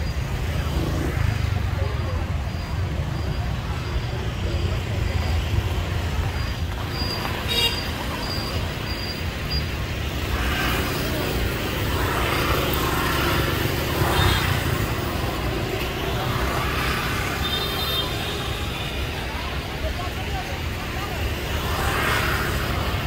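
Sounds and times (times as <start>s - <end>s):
crowd chatter: 0.0s - 23.0s
motorbike and car traffic: 0.0s - 23.0s.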